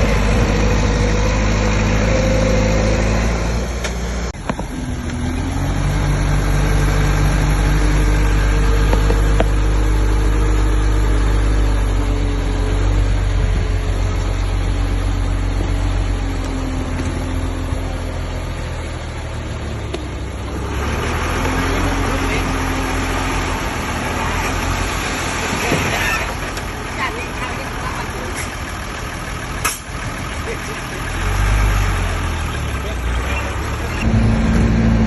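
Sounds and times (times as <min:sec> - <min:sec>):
bulldozer engine rumbling: 0:00.0 - 0:35.0.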